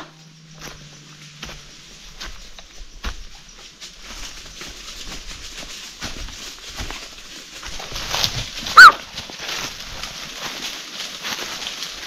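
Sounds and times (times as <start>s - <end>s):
footsteps on rough ground: 0.0s - 12.0s.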